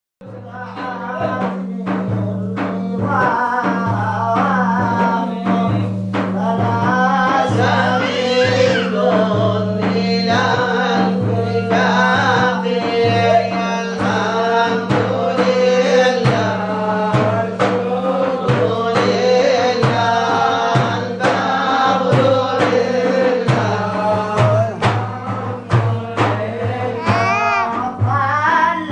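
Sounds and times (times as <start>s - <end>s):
drum beats: 0.2s - 28.9s
man singing devotional song: 0.2s - 28.9s.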